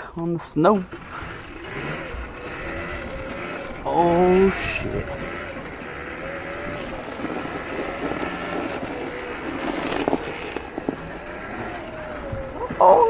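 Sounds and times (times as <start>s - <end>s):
steady rushing noise: 0.6s - 13.0s
electric motor whining: 0.8s - 13.0s.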